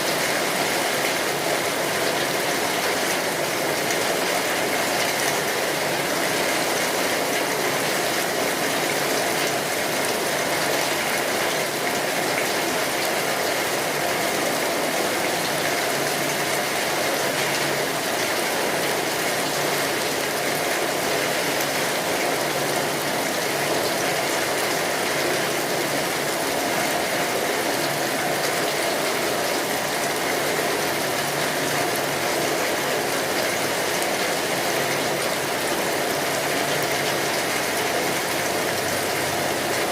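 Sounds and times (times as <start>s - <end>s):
rain drumming on tin roof: 0.0s - 39.9s.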